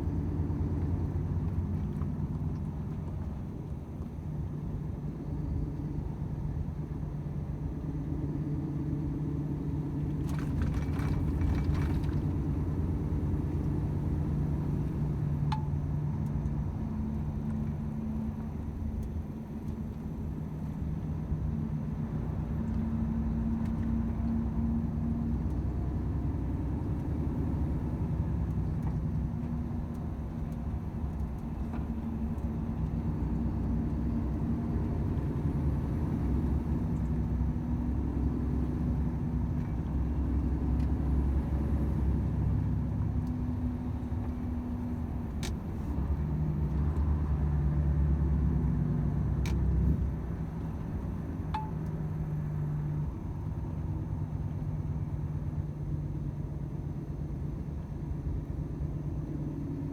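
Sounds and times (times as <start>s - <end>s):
road rumble: 0.0s - 59.9s
truck diesel engine drone: 0.0s - 59.9s.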